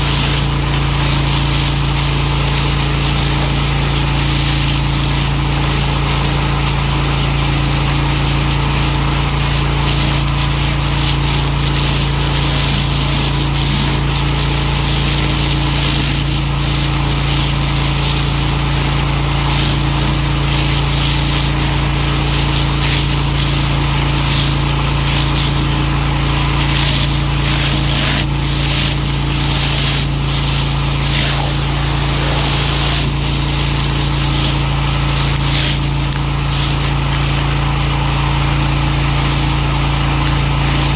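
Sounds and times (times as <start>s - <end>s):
high-pressure water jet hissing: 0.0s - 40.9s
pressure washer motor hum: 0.0s - 40.9s.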